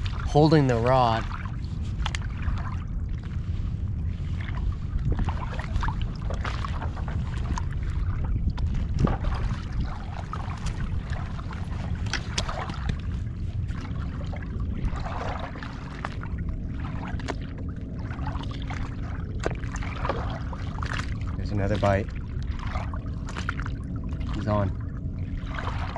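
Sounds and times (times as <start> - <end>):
small waves slapping hull: 0.0 - 25.9
wind buffeting microphone: 0.0 - 25.9.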